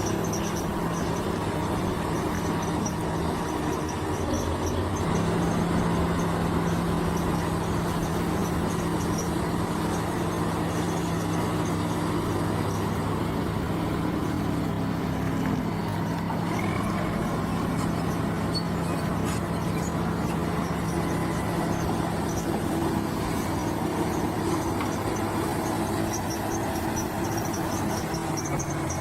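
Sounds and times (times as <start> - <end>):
heavy machine engine droning: 0.0 - 29.0.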